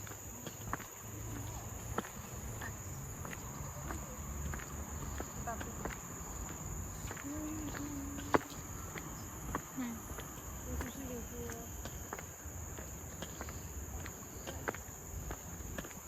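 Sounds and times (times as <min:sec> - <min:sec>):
footsteps clicking: 0:00.0 - 0:16.0
insects droning: 0:00.0 - 0:16.0
faint voices: 0:00.3 - 0:15.8.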